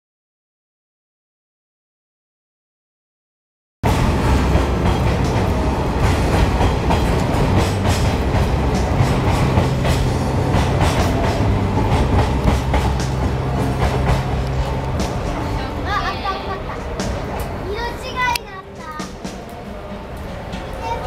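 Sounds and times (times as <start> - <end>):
train wheels rumbling: 3.8 - 21.0
rail joint clicks: 3.9 - 21.0.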